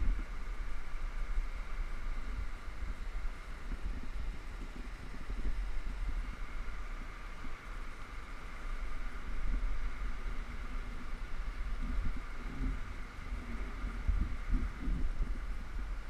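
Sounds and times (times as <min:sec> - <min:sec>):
steady hiss: 0:00.0 - 0:16.0
wind buffeting microphone: 0:00.0 - 0:16.0.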